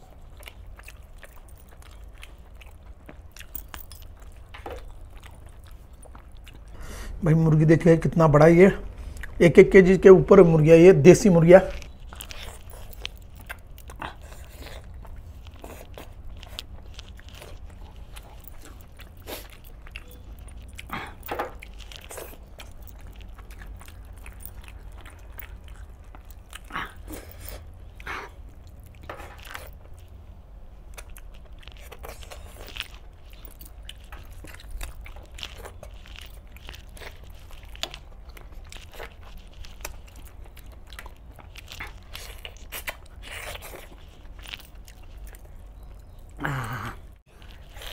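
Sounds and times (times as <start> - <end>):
crunching and tearing: 0.0 - 6.8, 7.8 - 30.2, 30.8 - 47.9
person chewing food: 0.0 - 47.9.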